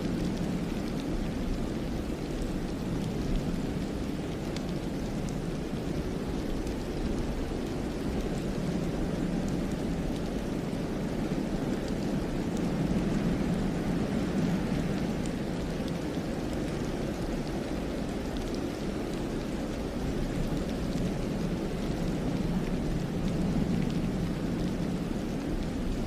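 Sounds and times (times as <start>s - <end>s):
faint ticks: 0.0s - 26.0s
wind rushing through pines: 0.0s - 26.0s.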